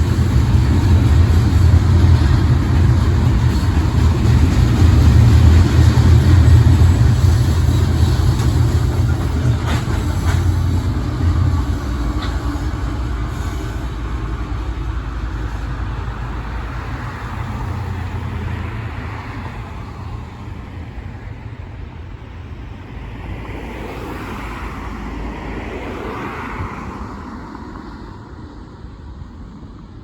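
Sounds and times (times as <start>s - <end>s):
rumble of passing vehicles: 0.0s - 30.0s.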